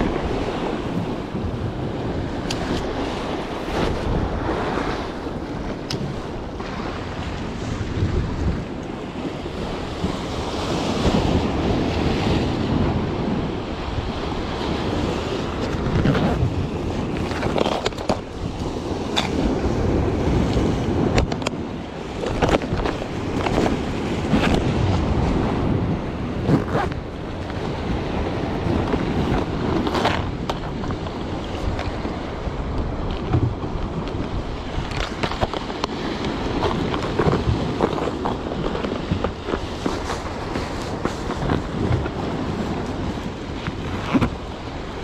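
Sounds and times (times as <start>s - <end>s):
sea waves washing on rocks: 0.0s - 45.0s
wind buffeting microphone: 0.0s - 45.0s.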